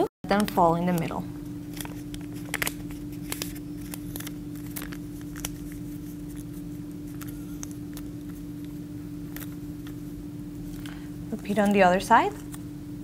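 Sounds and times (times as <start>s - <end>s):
steady low hum: 0.0s - 13.0s
paper creasing crackles: 0.3s - 12.6s.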